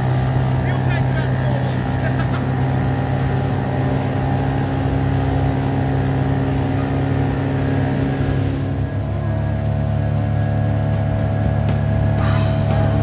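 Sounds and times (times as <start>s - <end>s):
two-stroke outboard motor running: 0.0s - 13.0s.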